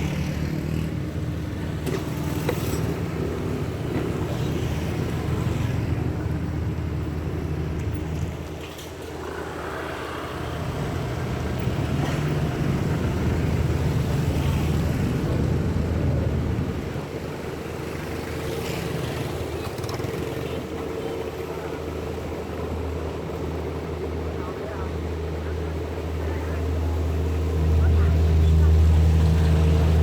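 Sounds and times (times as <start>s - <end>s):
street hum: 0.0s - 30.0s.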